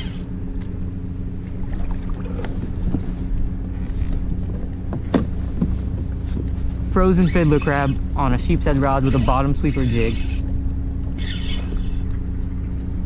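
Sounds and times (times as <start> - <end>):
water lapping against kayak hull: 0.0 - 13.0.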